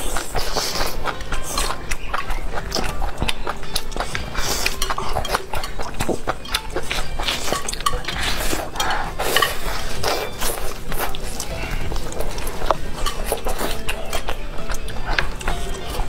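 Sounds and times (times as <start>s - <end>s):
chewing and slurping noodles: 0.0s - 16.0s
chopsticks clicking: 0.6s - 16.0s.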